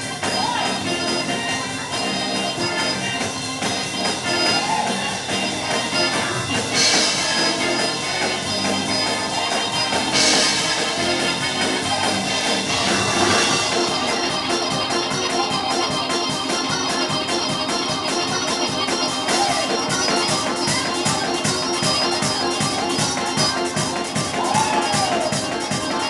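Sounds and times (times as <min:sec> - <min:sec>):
electric organ chords: 0:00.0 - 0:26.0
percussion quick steady beat: 0:02.7 - 0:26.0.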